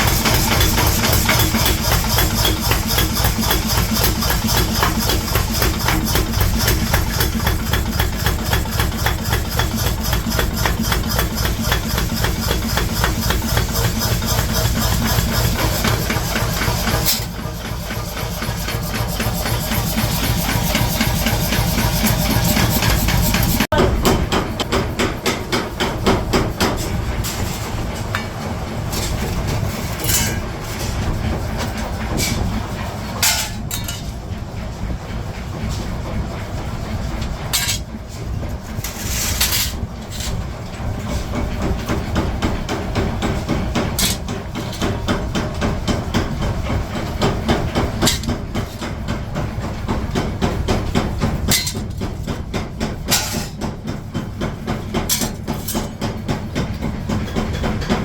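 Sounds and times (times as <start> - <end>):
machinery pounding: 0.0 - 58.0.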